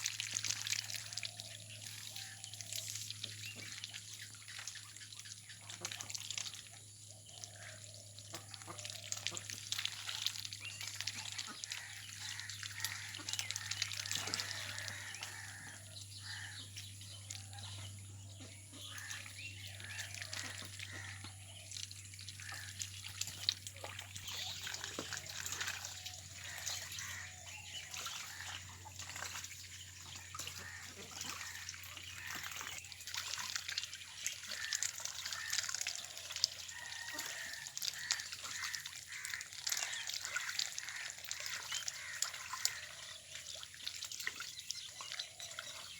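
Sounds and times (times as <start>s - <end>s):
ducks splashing in water: 0.0s - 45.9s.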